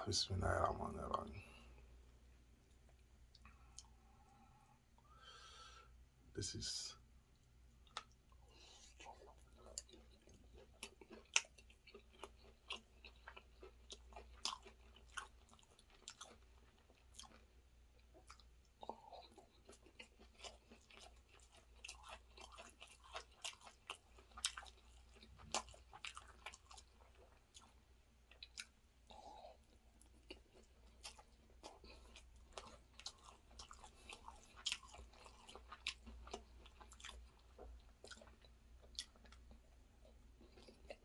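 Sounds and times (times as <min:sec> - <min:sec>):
person chewing rice: 0:07.4 - 0:41.0.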